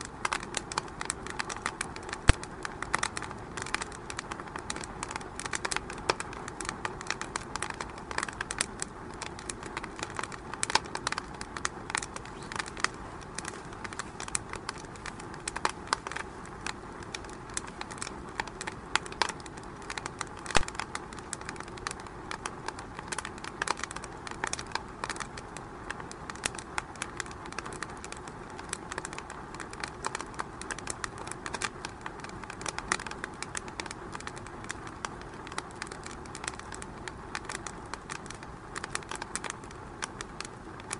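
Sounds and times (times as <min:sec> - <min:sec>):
low hiss of fire: 0:00.0 - 0:40.9
wood fire crackling and popping: 0:00.0 - 0:40.9.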